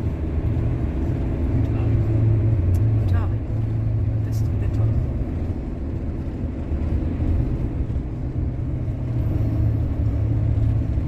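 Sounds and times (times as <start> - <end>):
van engine drone: 0.0 - 11.0.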